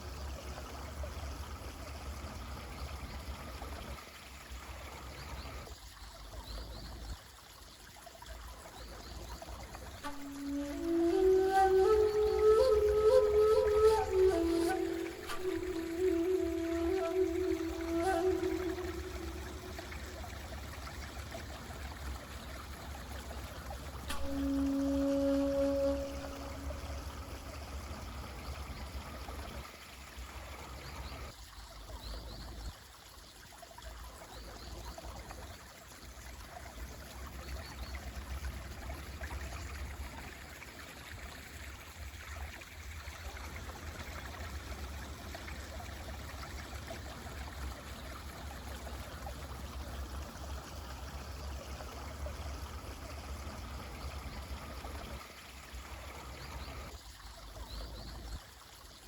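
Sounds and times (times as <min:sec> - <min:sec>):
mountain stream running: 0:00.0 - 0:59.0.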